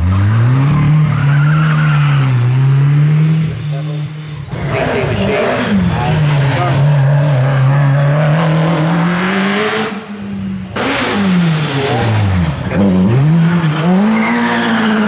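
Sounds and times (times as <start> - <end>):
racing car engine revving: 0.0 - 15.0
second racing car engine: 0.0 - 15.0.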